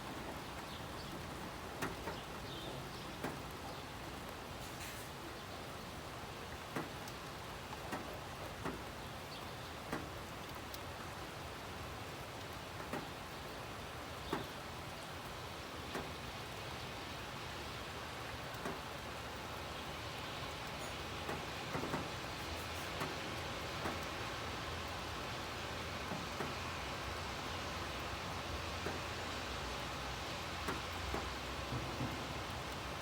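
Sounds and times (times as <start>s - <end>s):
raindrops ticking close by: 0.0s - 33.0s
steady rain hiss: 0.0s - 33.0s.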